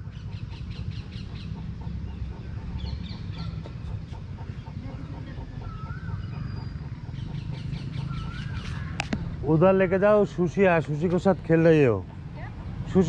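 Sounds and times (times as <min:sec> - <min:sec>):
bird warbling call: 0:00.0 - 0:10.8
birds chirping: 0:00.0 - 0:13.0.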